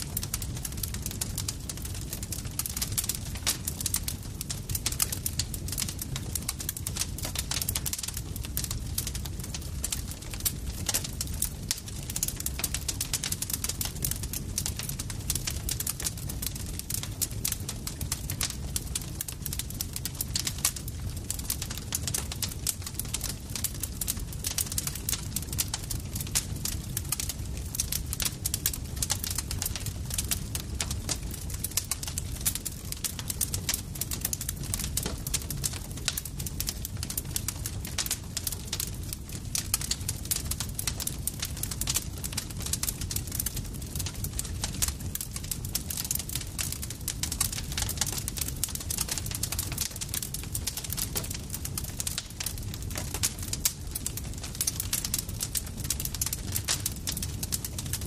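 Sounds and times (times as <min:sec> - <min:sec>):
burning wood crackling and popping: 0:00.0 - 0:58.0
campfire rumble: 0:00.0 - 0:58.0.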